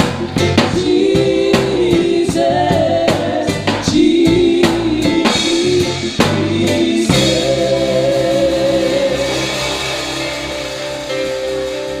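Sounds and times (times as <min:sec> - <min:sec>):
people singing: 0:00.0 - 0:11.2
drum strokes: 0:00.0 - 0:12.0
worship band playing: 0:00.0 - 0:12.0.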